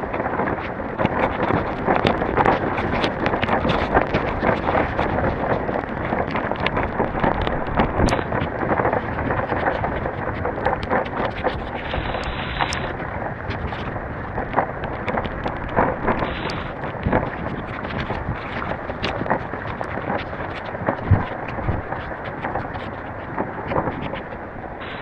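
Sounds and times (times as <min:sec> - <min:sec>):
heavy rain falling: 0:00.0 - 0:25.0
wind rumbling on microphone: 0:00.0 - 0:25.0.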